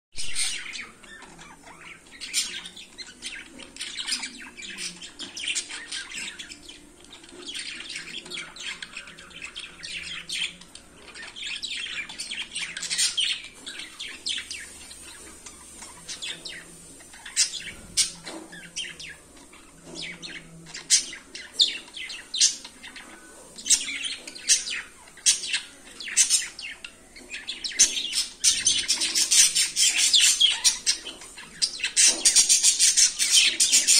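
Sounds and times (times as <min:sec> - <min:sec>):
budgerigars chirping: 0:00.2 - 0:33.9.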